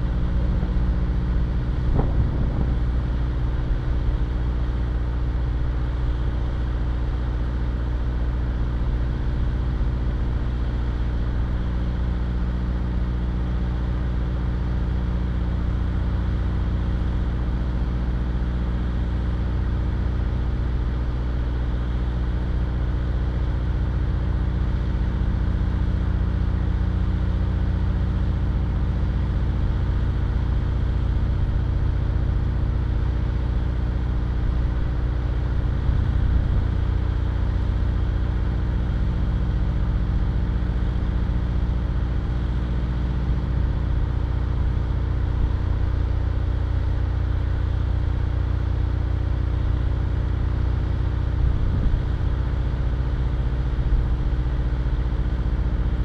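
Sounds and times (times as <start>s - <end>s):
steady hum tone: 0.0s - 56.0s.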